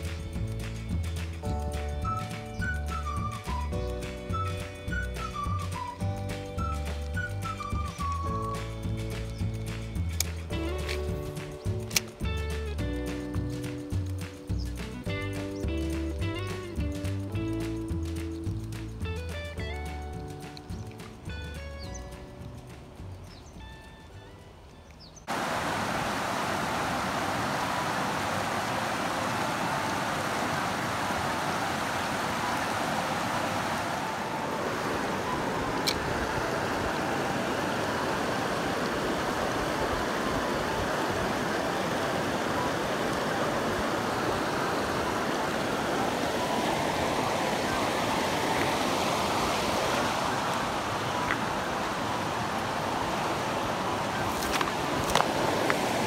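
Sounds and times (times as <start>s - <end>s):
river water rushing over stones: 0.0s - 21.4s, 25.2s - 56.0s.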